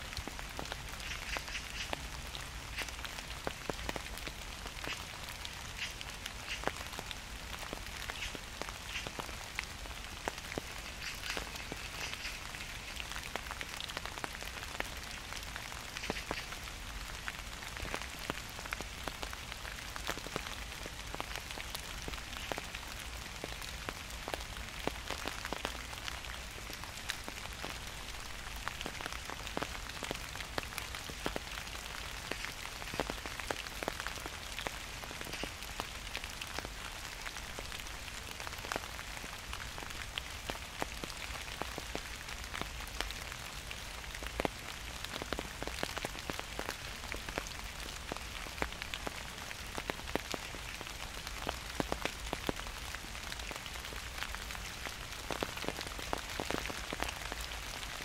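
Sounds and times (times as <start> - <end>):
gentle rain hiss: 0.0 - 58.0
raindrops ticking: 0.0 - 58.0.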